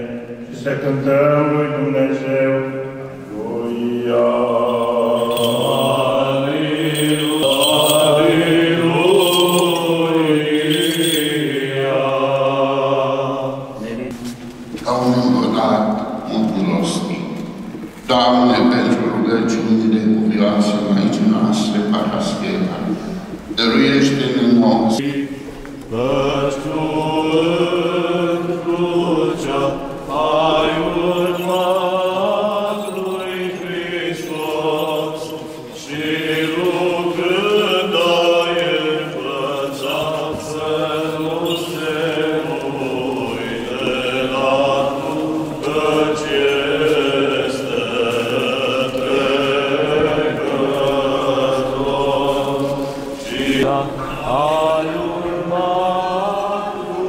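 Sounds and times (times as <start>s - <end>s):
voices singing unaccompanied chant: 0.0s - 57.0s.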